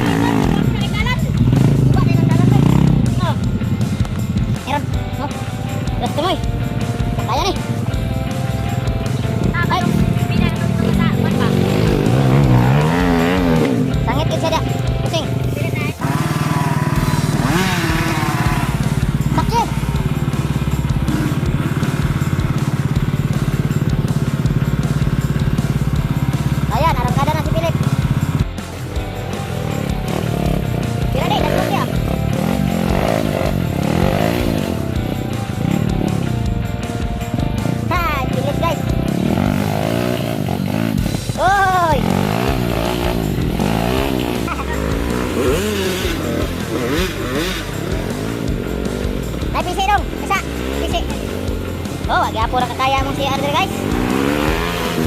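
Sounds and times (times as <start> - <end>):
motorcycle engine putter: 0.0 - 55.0.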